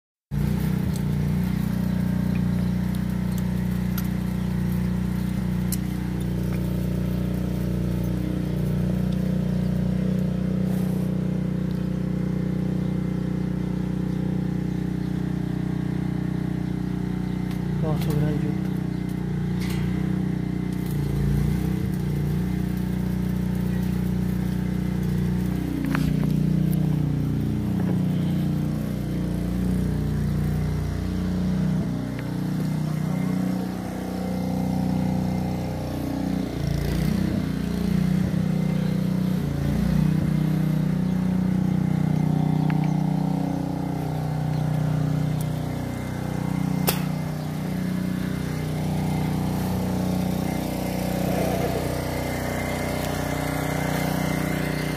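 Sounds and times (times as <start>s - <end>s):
engine running: 0.3s - 54.9s.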